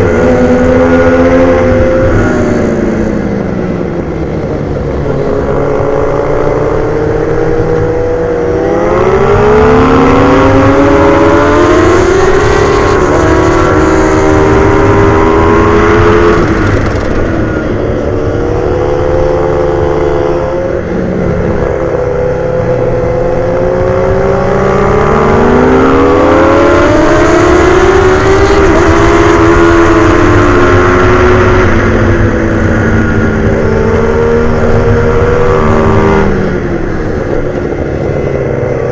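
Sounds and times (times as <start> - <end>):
racing motorcycles revving: 0.0 - 38.9.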